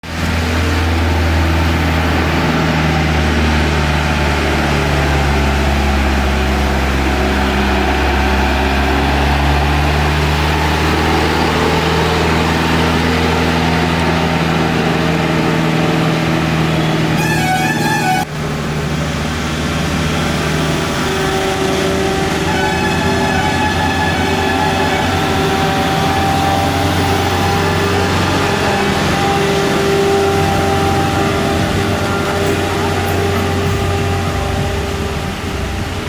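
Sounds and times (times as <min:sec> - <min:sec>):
lorry diesel engine running: 0:00.0 - 0:36.0.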